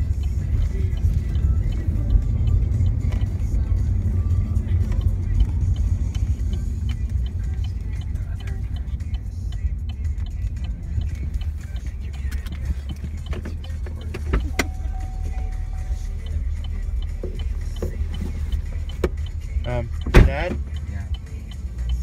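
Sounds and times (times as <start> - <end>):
engine and tyre rumble: 0.0 - 22.0
faint music from car stereo: 0.0 - 22.0
light regular ticking: 0.0 - 22.0.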